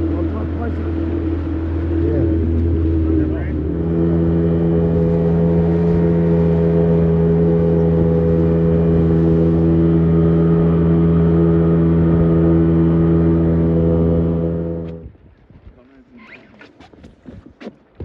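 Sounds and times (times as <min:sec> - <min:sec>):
engine running steadily: 0:00.0 - 0:15.1.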